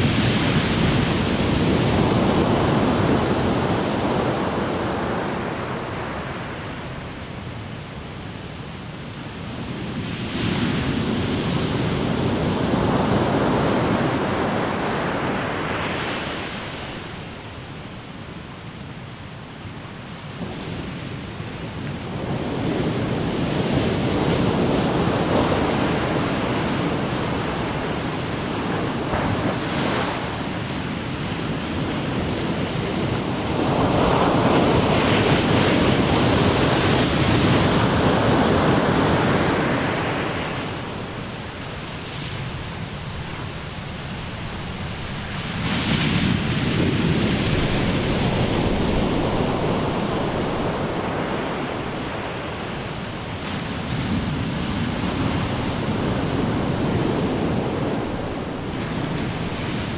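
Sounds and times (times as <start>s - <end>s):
ocean waves crashing: 0.0s - 59.9s.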